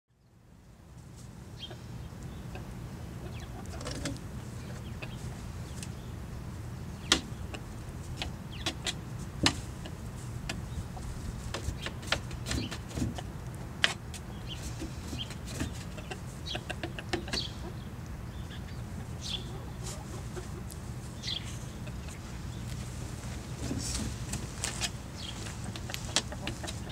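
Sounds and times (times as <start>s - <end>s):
steady low hum: 0.2s - 26.9s
chickens clucking softly: 1.5s - 26.9s.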